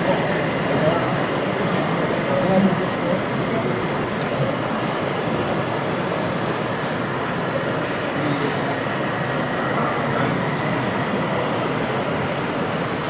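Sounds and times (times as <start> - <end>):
exhibition hall background noise: 0.0 - 13.0
model train running: 0.0 - 13.0.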